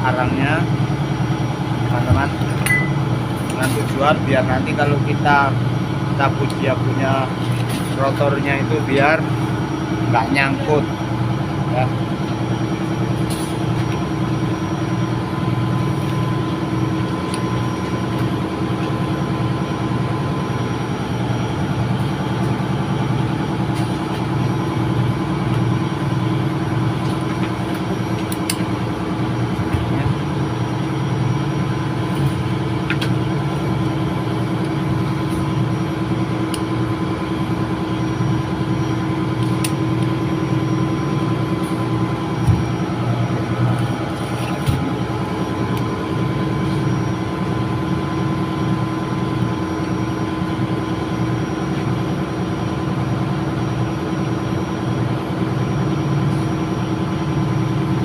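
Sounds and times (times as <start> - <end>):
engine room machinery drone: 0.0 - 58.0.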